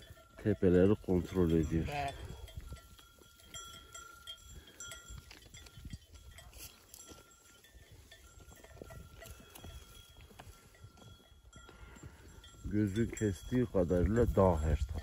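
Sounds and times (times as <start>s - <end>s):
sheep bells clinking: 0.0s - 15.0s.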